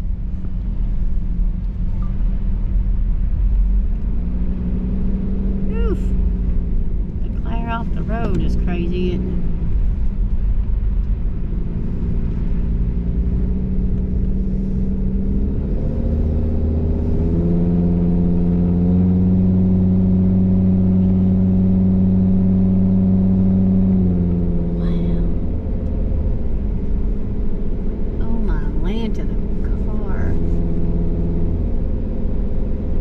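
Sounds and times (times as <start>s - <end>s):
car engine: 0.0s - 33.0s
road rumble: 0.0s - 33.0s.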